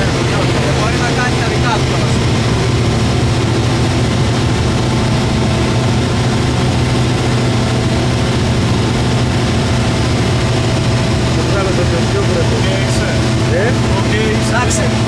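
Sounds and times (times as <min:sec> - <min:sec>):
aircraft engine hum in cabin: 0:00.0 - 0:15.0
rushing air noise: 0:00.0 - 0:15.0.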